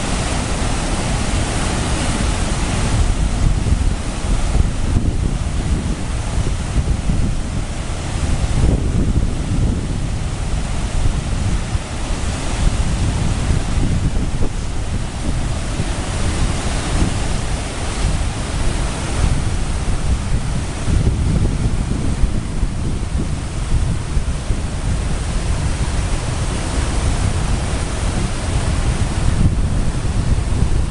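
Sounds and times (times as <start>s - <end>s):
river rapids rushing: 0.0s - 30.9s
wind buffeting microphone: 0.0s - 30.9s.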